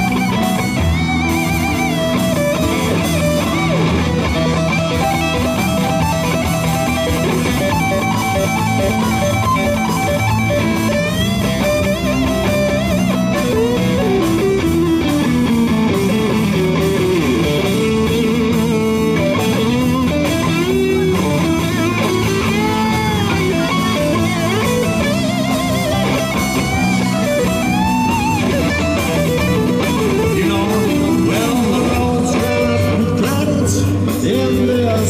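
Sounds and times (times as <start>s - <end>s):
drum beat: 0.0s - 33.6s
electric guitar solo: 0.0s - 35.0s
keyboard chords: 0.0s - 35.0s.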